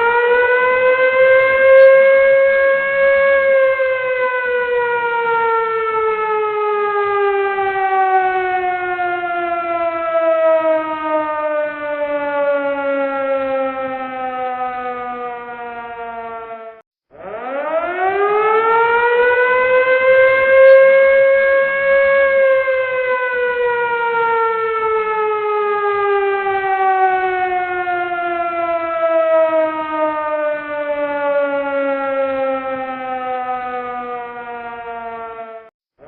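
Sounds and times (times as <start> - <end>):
emergency siren wailing: 0.0 - 35.7.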